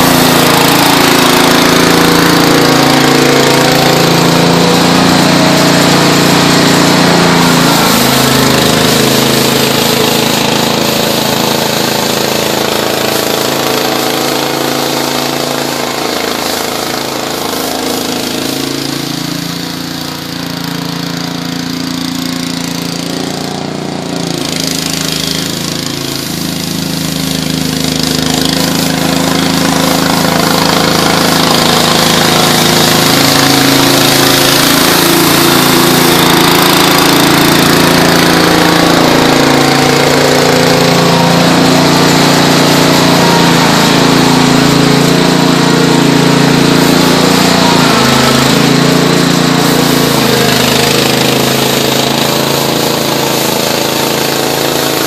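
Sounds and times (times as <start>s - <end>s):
garden tractor engine running: 0.0s - 55.0s
power broom sweeping snow: 0.0s - 55.0s.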